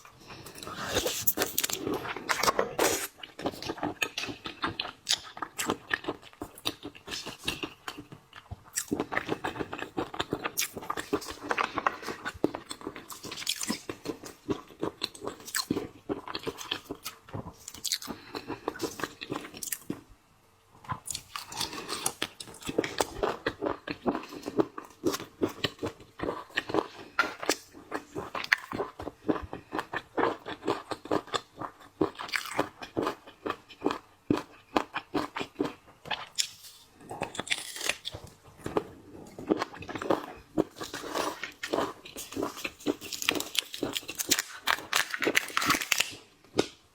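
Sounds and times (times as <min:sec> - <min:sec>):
chewing and crunching seafood: 0:00.0 - 0:20.0, 0:20.8 - 0:46.8.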